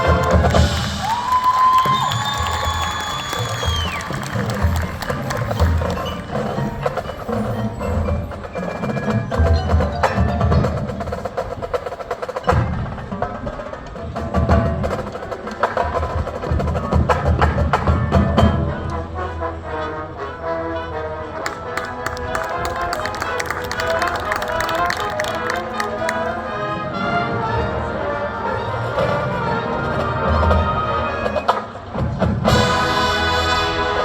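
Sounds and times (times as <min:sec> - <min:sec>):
marching band drums: 0:00.0 - 0:18.9, 0:21.5 - 0:26.5, 0:28.9 - 0:34.0.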